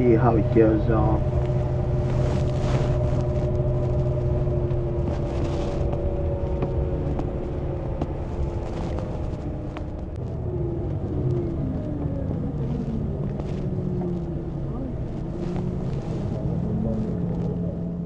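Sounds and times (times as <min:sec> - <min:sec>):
engine and road rumble: 0:00.0 - 0:18.0
vehicle whine: 0:00.0 - 0:18.0.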